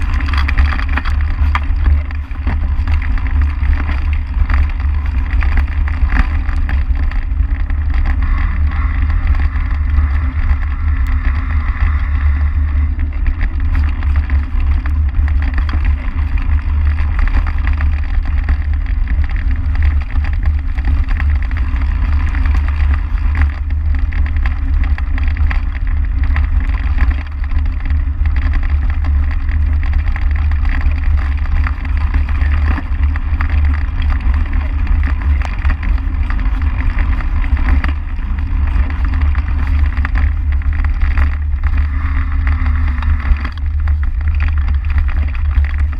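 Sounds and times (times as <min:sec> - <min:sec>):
bike tyre vibration: 0:00.0 - 0:45.9.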